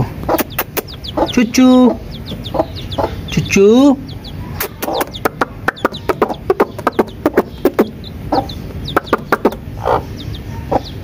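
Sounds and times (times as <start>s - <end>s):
chick peeping: 0.0s - 11.0s
hen clucking: 0.0s - 11.0s.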